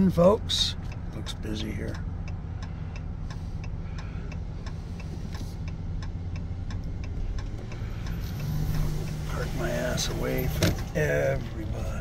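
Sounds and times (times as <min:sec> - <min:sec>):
engine hum: 0:00.0 - 0:12.0
road noise: 0:00.0 - 0:12.0
turn signal clicking: 0:00.0 - 0:12.0.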